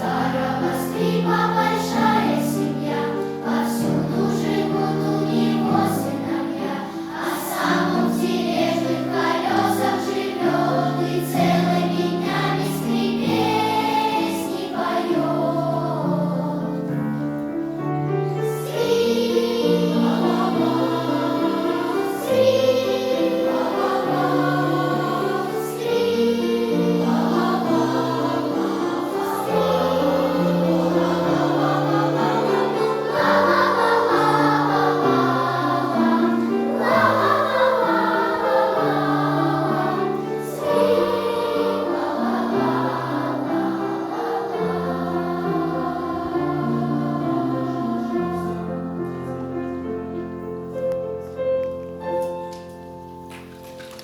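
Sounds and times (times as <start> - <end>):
choir singing in harmony: 0.0 - 50.1.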